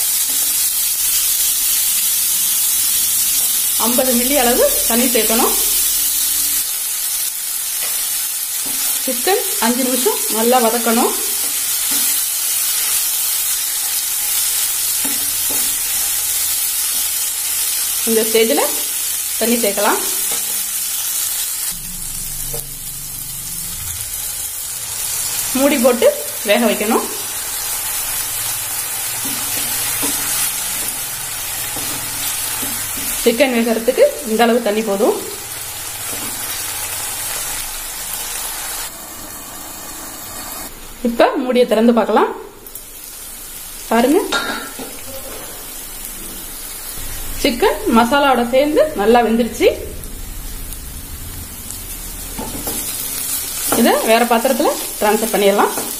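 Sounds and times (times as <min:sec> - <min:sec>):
chicken sizzling in a pan: 0:00.0 - 0:41.1, 0:41.8 - 0:55.9.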